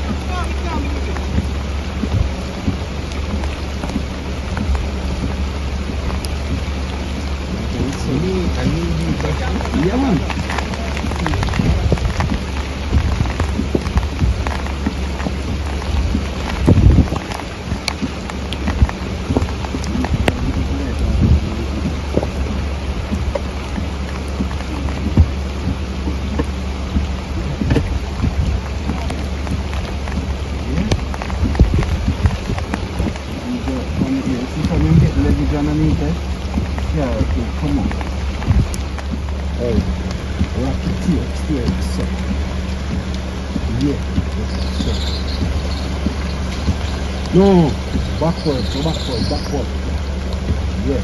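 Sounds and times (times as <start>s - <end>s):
drop ticks and small knocks: 0.0s - 51.0s
heavy rain falling: 0.0s - 51.0s
low rumble: 0.0s - 51.0s.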